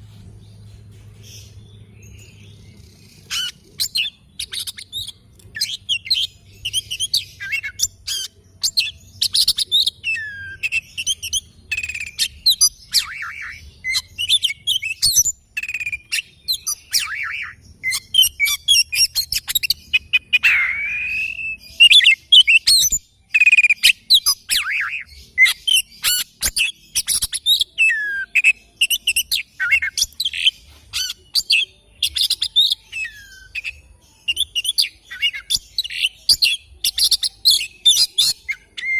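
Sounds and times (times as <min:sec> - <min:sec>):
bird singing chirps and whistles: 0:01.2 - 0:38.9.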